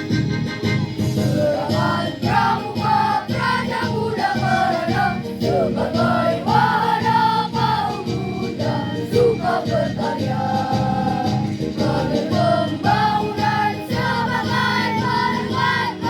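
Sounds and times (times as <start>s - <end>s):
rhythmic instrumental backing: 0.0s - 16.0s
choir singing a march: 1.0s - 16.0s.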